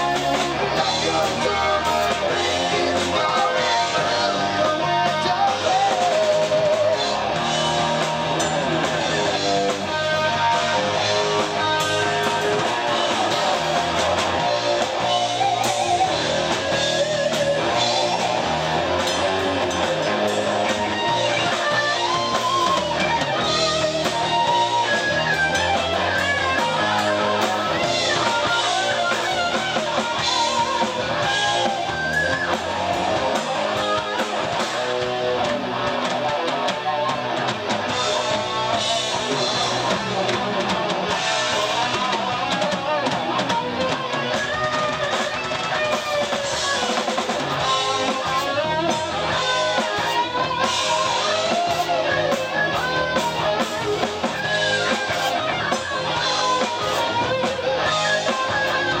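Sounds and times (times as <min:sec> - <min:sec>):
bass guitar: 0:00.0 - 0:59.0
distorted electric guitars: 0:00.0 - 0:59.0
drum kit: 0:00.0 - 0:59.0.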